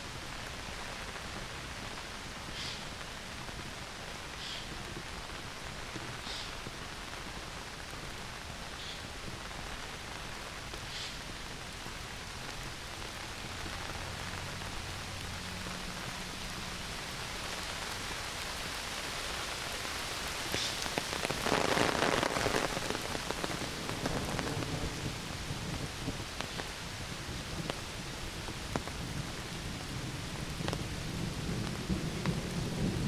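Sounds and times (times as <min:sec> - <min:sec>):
heavy rain through trees: 0:00.0 - 0:33.0.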